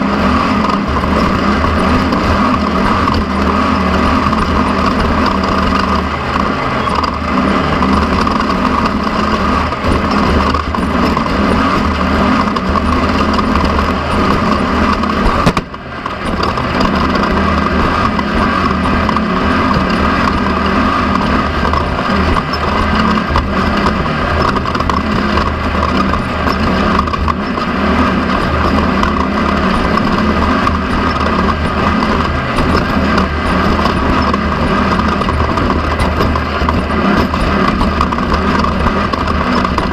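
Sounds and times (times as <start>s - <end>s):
race car engine under load: 0.0s - 39.9s
rattling and driving noise: 0.0s - 39.9s.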